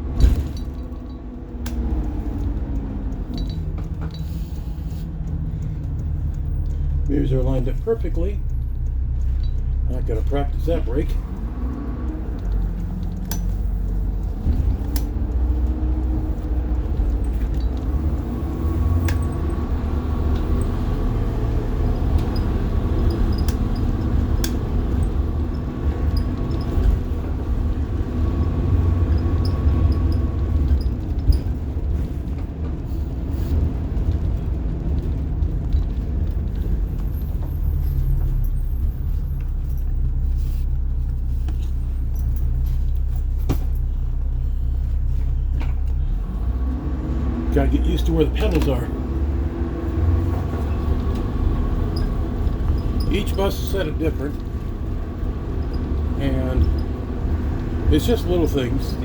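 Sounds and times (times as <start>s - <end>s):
bus clicks and rattles: 0.0s - 59.0s
bus diesel engine drone: 0.0s - 59.0s.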